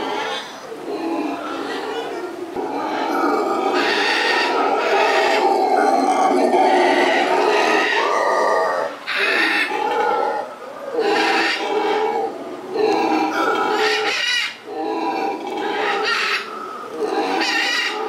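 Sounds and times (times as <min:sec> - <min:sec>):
howler monkeys howling: 0:00.0 - 0:18.0.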